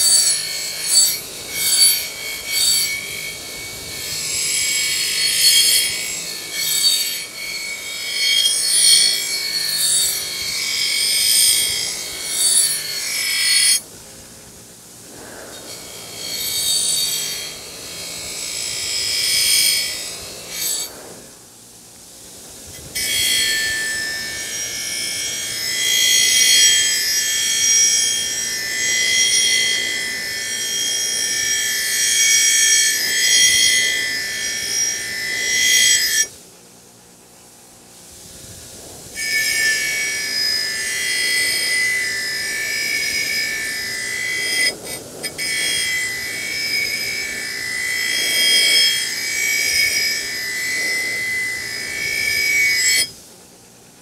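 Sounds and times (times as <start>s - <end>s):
wire wheel grinding rust: 0.0s - 21.0s, 22.6s - 36.4s, 38.4s - 53.2s.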